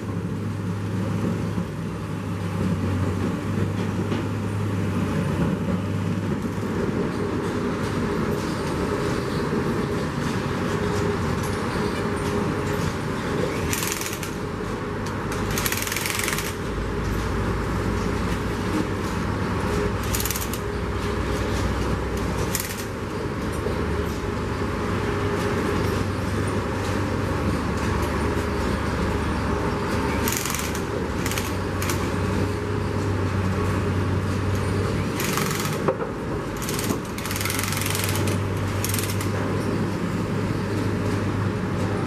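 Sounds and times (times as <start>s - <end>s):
machinery noise: 0.0s - 42.0s.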